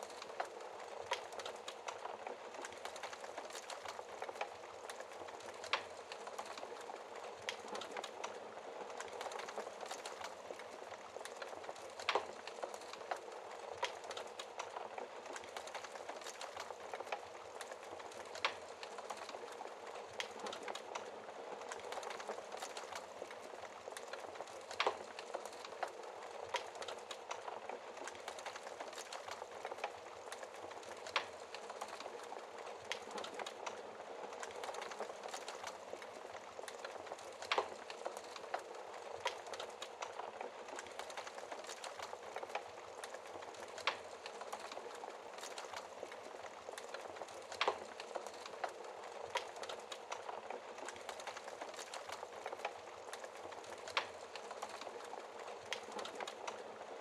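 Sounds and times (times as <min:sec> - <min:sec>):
wood fire crackling: 0:00.0 - 0:57.0
fire sharp snaps: 0:00.1 - 0:56.7.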